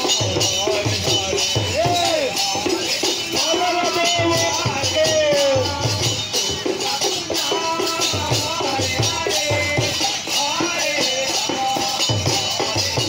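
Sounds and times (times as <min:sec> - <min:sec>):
jingling hand percussion: 0:00.0 - 0:13.0
voices singing devotional melody: 0:00.0 - 0:13.0.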